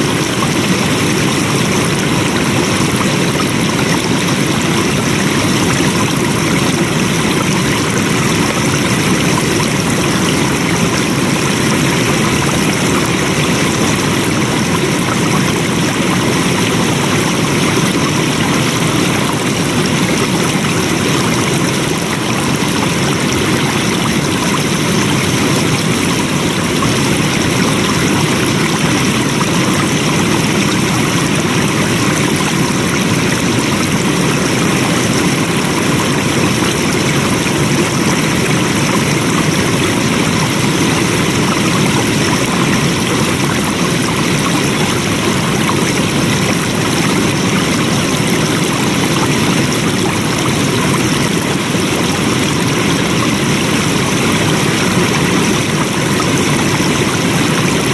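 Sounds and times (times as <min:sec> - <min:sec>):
stream rushing: 0:00.0 - 0:57.9.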